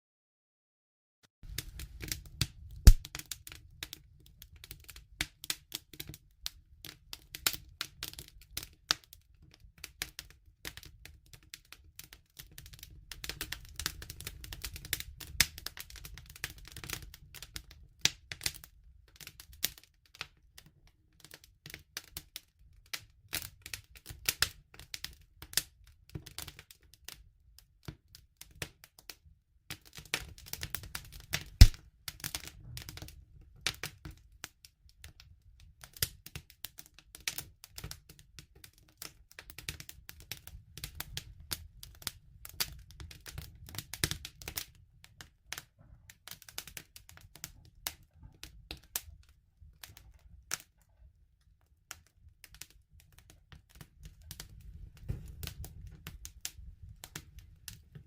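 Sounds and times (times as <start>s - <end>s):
wood fire crackling: 1.4s - 28.9s, 29.7s - 50.9s, 51.5s - 58.0s.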